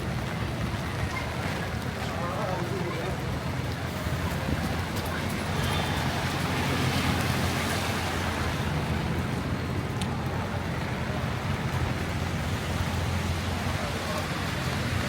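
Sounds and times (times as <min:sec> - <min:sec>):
heavy rain on street: 0:00.0 - 0:15.0
road traffic rumble: 0:00.0 - 0:15.0.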